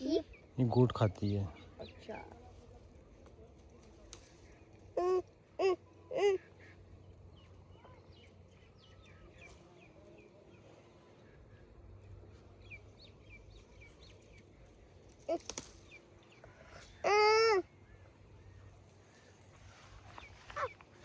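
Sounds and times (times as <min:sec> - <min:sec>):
low steady background hum: 0:00.0 - 0:21.0
small birds chirping: 0:00.0 - 0:21.0.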